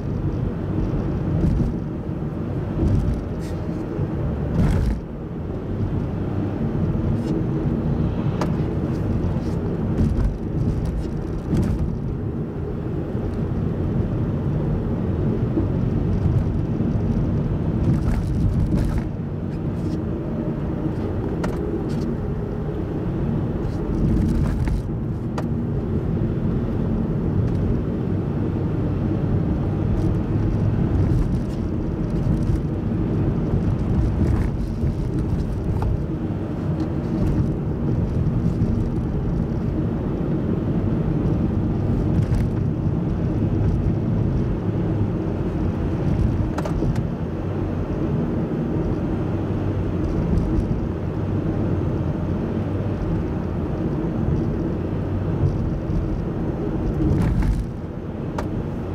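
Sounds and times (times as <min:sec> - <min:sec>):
car engine and tyre rumble: 0:00.0 - 0:58.9.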